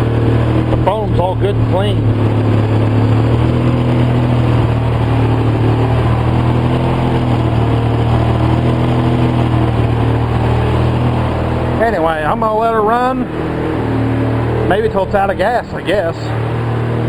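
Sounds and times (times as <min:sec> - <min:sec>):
atv engine idling roughly: 0:00.0 - 0:17.0.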